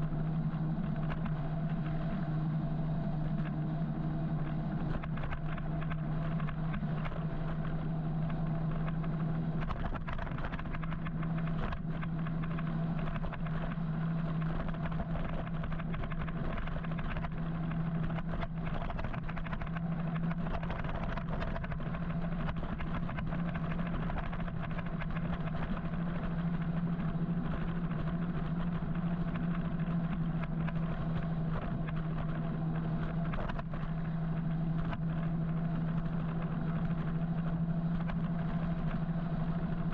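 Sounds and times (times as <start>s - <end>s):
electric motor low hum: 0.0s - 39.9s
wind and tyre rush: 0.0s - 39.9s.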